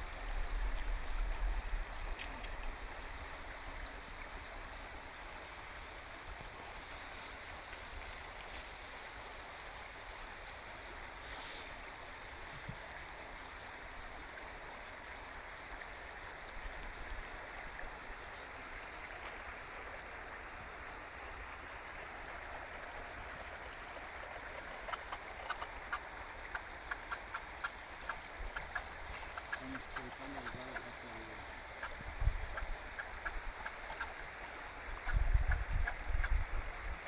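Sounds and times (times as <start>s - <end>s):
river water rushing: 0.0s - 35.1s.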